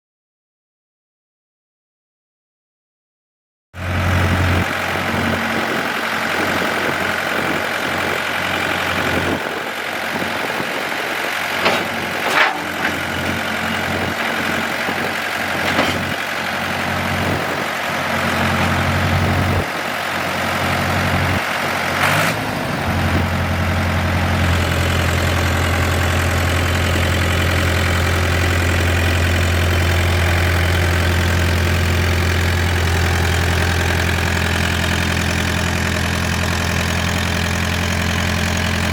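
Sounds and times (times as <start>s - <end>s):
diesel engine idling: 3.8s - 38.9s.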